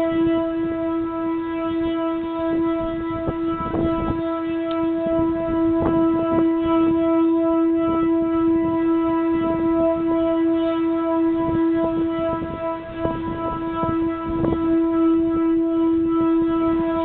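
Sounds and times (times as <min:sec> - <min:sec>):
electronic siren steady tone: 0:00.0 - 0:17.0.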